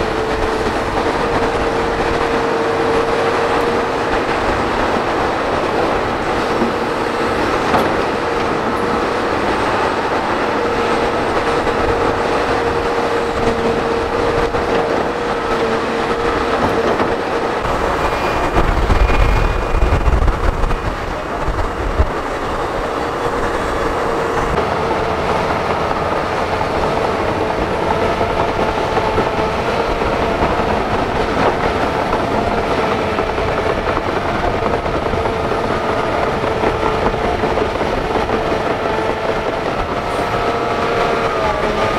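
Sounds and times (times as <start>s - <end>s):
diesel engine drone: 0.0s - 41.9s.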